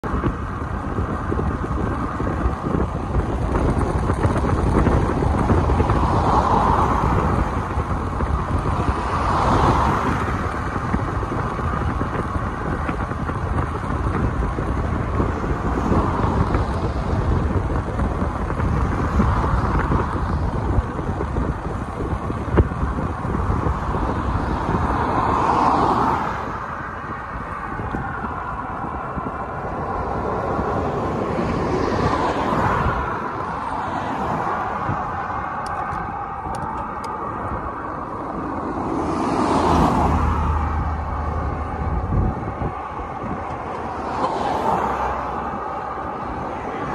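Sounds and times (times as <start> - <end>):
vehicles passing on motorway: 0.0 - 46.9
wind buffeting microphone: 0.0 - 46.9.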